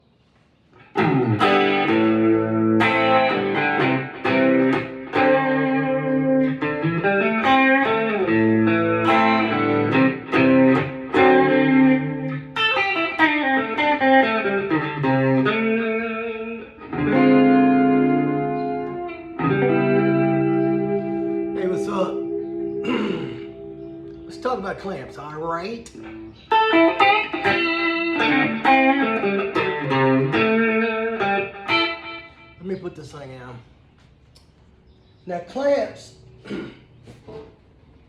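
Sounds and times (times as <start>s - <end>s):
plucked guitar notes and chords: 0.8s - 32.9s.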